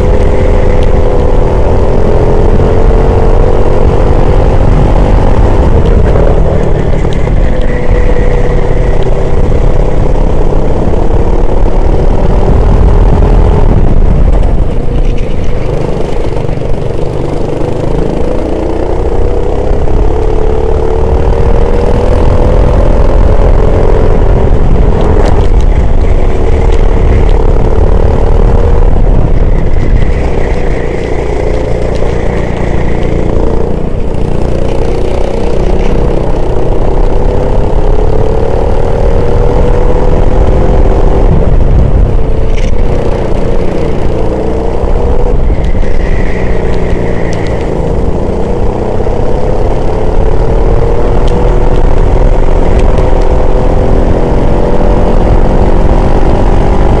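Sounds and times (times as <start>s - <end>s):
heavy low rumble: 0.0s - 57.0s
racing engine accelerating and slowing: 0.0s - 57.0s.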